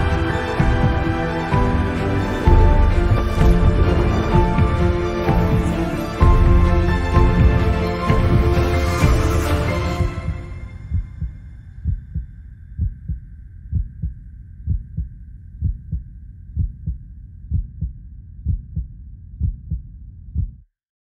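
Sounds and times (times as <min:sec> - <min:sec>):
heartbeat thumps: 0:02.5 - 0:20.6.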